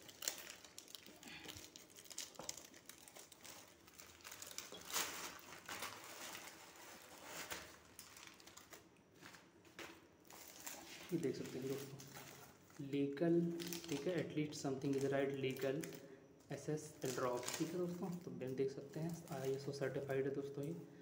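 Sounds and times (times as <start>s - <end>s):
plastic packaging crinkling: 0.0s - 20.8s.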